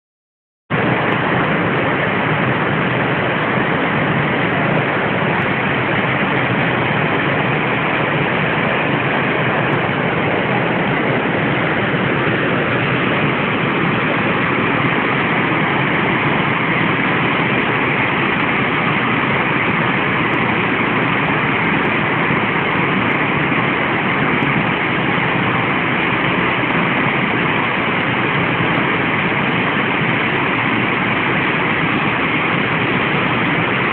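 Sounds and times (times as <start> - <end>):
waterfall roaring: 0.7 - 33.9.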